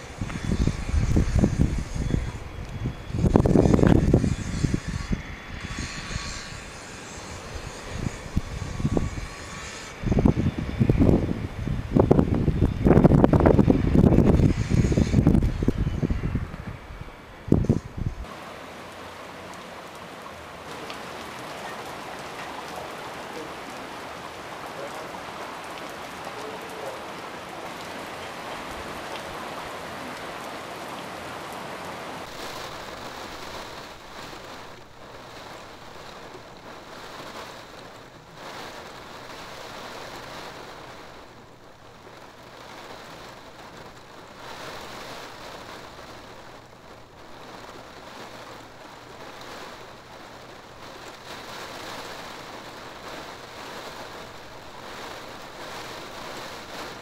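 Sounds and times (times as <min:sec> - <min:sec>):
gusty wind: 0:00.0 - 0:57.0
heavy rain pouring: 0:00.0 - 0:57.0.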